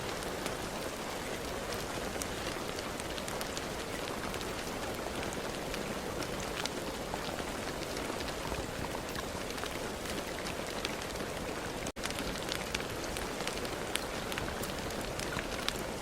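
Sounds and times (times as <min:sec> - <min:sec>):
rain falling with ticking drops: 0:00.0 - 0:16.0.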